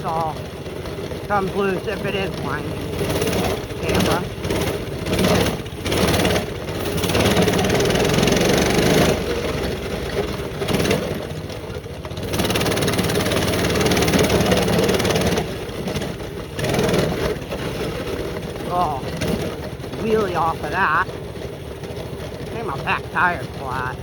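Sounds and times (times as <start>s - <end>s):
mini bike engine running: 0.0s - 24.0s.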